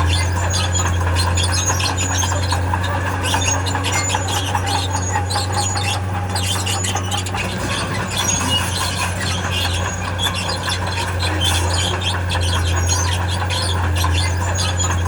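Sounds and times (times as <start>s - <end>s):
diesel engine drone: 0.0s - 15.0s
steel tracks squealing: 0.0s - 15.0s.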